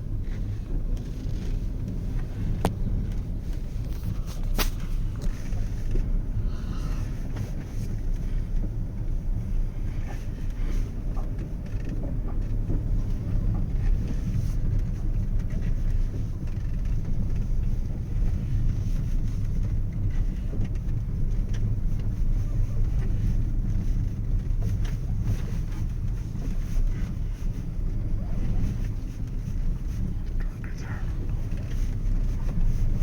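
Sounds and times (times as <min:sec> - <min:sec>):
wind buffeting microphone: 0:00.0 - 0:30.4.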